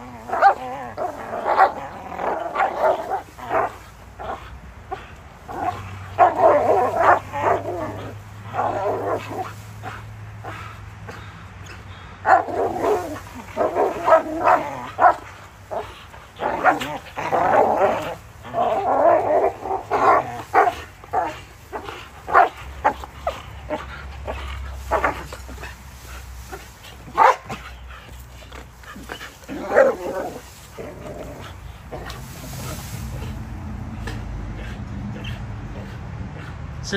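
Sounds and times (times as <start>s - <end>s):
dogs barking in play: 0.0s - 36.8s.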